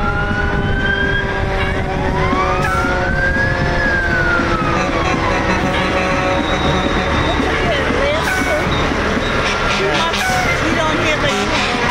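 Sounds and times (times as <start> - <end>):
fire siren wailing: 0.0 - 11.9
low rumble of trucks: 0.0 - 11.9.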